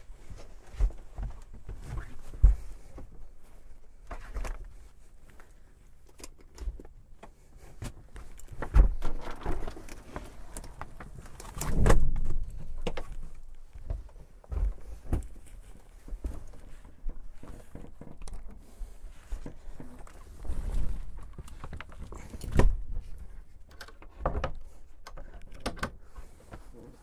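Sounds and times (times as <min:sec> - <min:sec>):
fabric walls rustling: 0:00.0 - 0:27.0.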